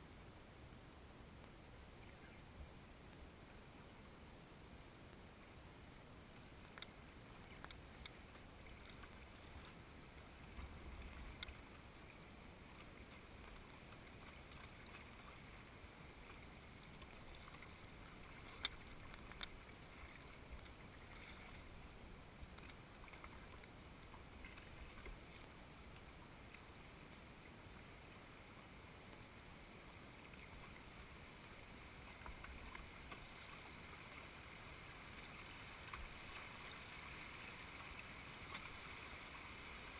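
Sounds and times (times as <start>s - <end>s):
river water rippling: 0.0s - 39.9s.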